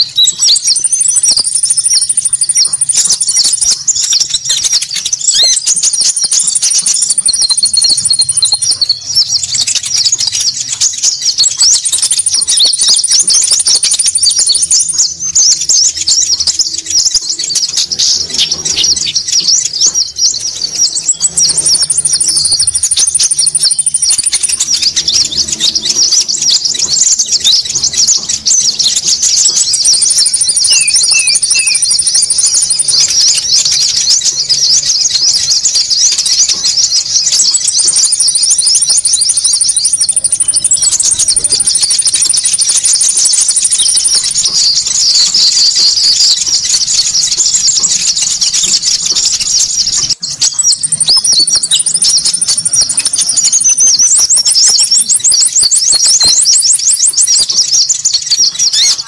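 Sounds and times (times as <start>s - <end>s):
high thin bird trill: 0.0s - 59.0s
small birds chirping: 0.0s - 59.0s.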